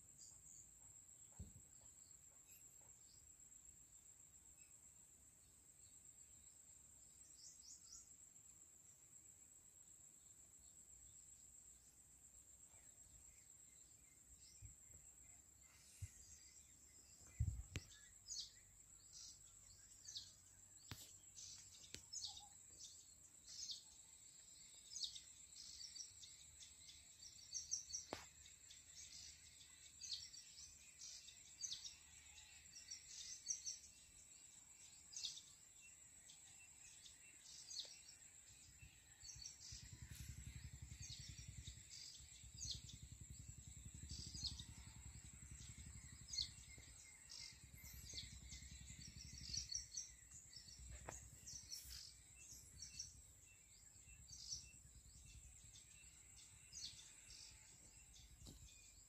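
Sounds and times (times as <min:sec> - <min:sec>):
steady high-pitched whine: 0:07.3 - 0:59.0.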